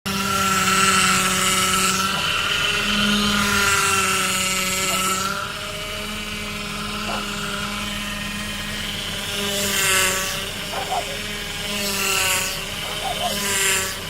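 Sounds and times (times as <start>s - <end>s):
power steering pump whine: 0.1s - 14.0s
car engine running: 0.6s - 14.0s.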